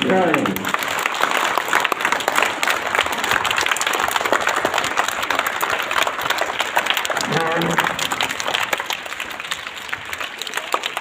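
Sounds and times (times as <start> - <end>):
many quick claps and slaps: 0.0 - 11.0.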